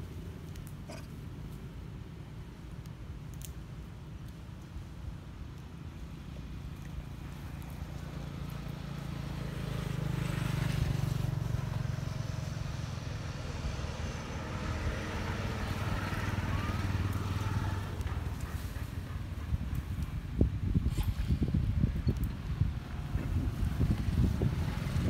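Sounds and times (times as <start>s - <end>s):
vehicle engines on road: 0.0s - 25.0s.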